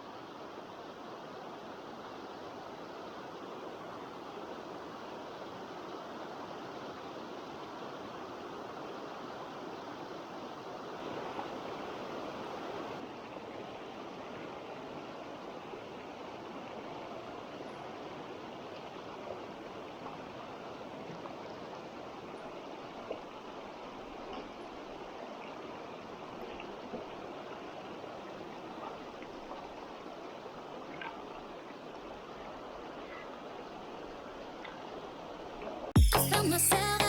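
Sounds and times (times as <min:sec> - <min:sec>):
mountain stream rushing: 0:00.0 - 0:37.0.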